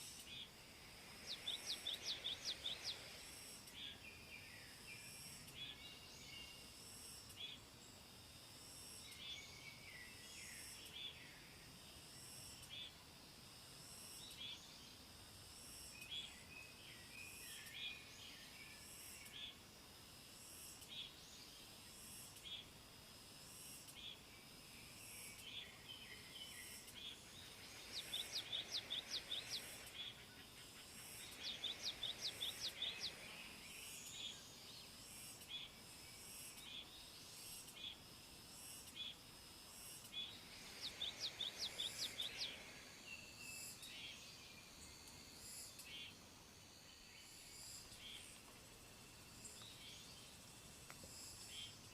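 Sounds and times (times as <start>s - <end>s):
faint insect chirping: 0.0s - 51.9s.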